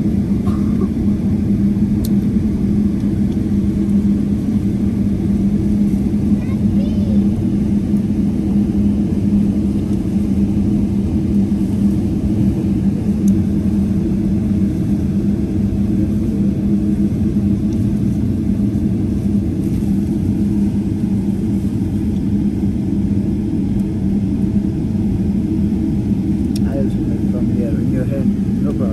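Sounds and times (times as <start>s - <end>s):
airliner cabin rumble: 0.0s - 28.9s.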